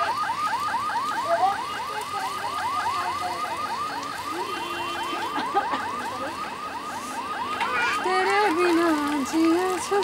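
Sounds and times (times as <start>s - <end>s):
electronic alarm siren yelping: 0.0s - 8.9s.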